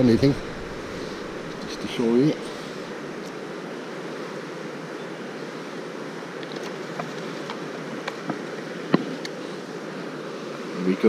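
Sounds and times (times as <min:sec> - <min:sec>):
fast-flowing river rushing: 0:00.0 - 0:10.8.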